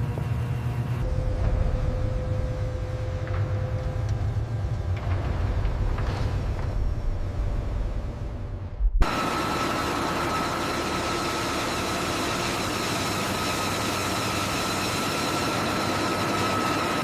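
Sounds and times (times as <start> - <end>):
machine running with high whine: 0.0 - 17.0.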